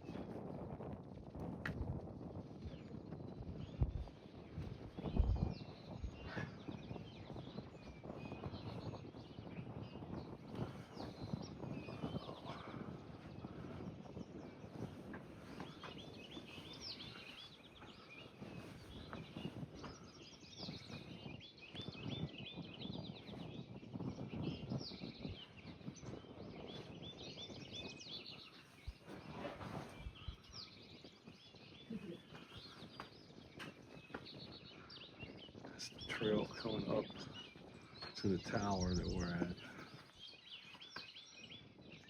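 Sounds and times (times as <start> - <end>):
wind rumble on microphone: 0.0 - 42.0
songbirds chirping and singing: 2.3 - 42.0.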